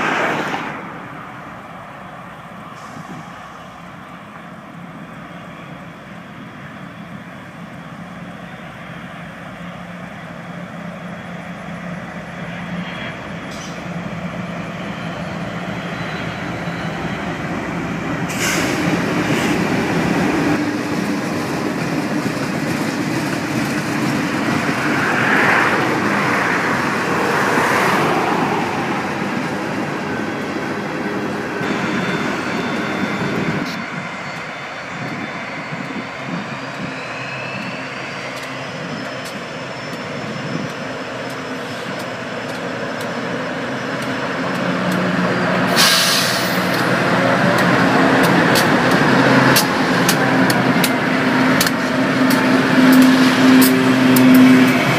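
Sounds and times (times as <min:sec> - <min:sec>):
diesel locomotive engines: 0:00.0 - 0:54.9
freight train wheels rumbling: 0:00.0 - 0:54.9.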